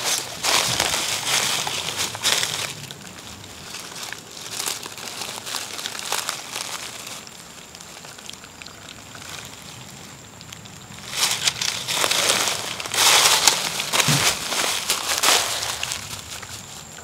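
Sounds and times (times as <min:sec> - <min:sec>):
cat chewing and lapping food: 0:00.0 - 0:17.0.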